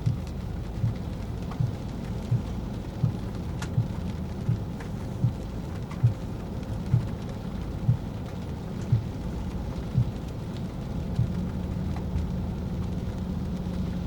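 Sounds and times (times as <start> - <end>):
car driving rumble: 0.0 - 14.0
rain: 0.0 - 14.0.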